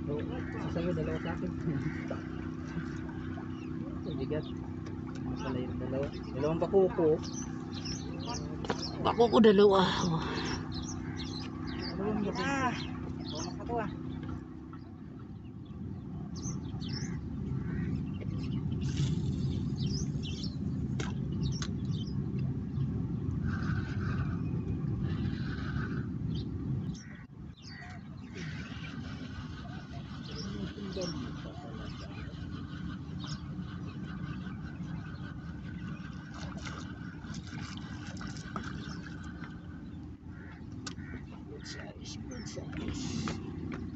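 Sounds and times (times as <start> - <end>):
low engine-like drone: 0.0 - 43.9
small birds chirping: 0.0 - 43.9
steady low rumble: 0.0 - 43.9.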